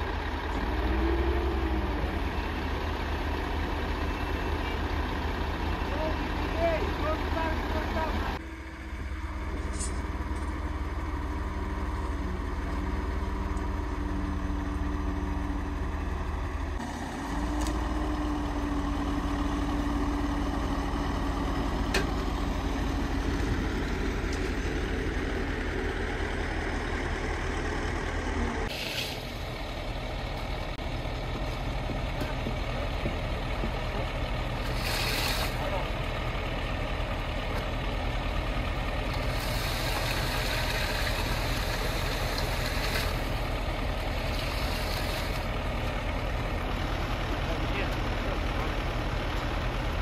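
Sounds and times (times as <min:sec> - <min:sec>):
diesel truck engines running: 0:00.0 - 0:50.0.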